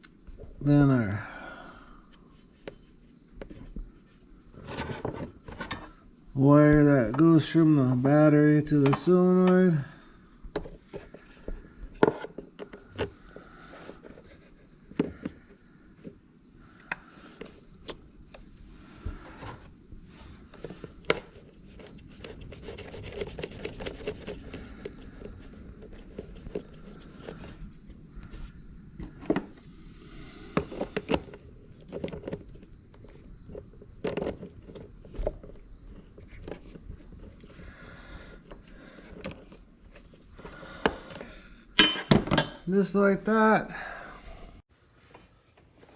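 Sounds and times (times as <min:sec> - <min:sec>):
faint high chirping: 0:00.0 - 0:45.9
hand tools clicking and tapping: 0:04.6 - 0:16.2, 0:16.8 - 0:29.7, 0:30.4 - 0:42.7.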